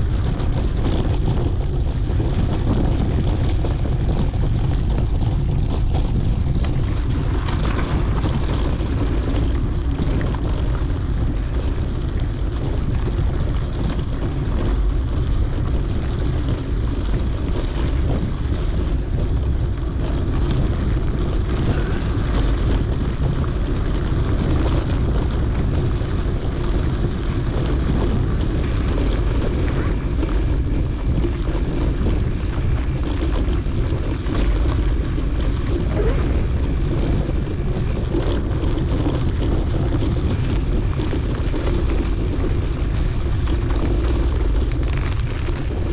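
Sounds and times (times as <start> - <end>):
bike rattles and knocks: 0.0 - 45.9
bike tyre rumble: 0.0 - 45.9
wind buffeting microphone: 0.0 - 45.9.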